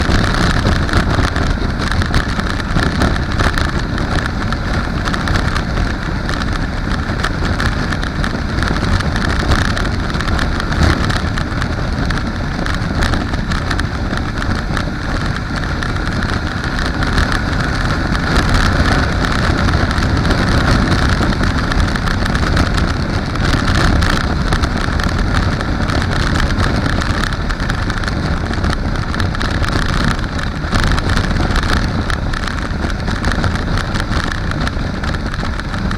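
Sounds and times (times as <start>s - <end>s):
motorcycle engine running: 0.0s - 35.9s
wind buffeting microphone: 0.0s - 35.9s.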